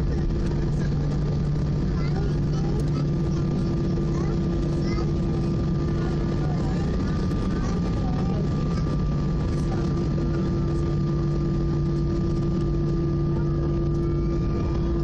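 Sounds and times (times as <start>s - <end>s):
jet engines humming at low power: 0.0s - 15.0s
low rumble from runway: 0.0s - 15.0s.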